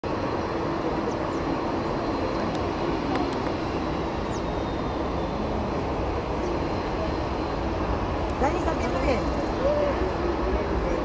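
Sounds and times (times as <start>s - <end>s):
distant jet engine rumble: 0.0s - 11.0s
high whine: 0.0s - 11.0s.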